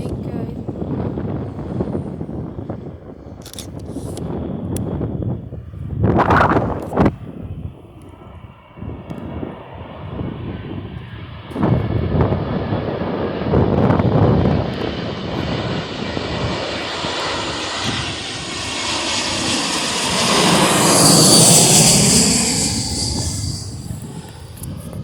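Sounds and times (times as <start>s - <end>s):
jet airliner passing: 0.0s - 25.0s.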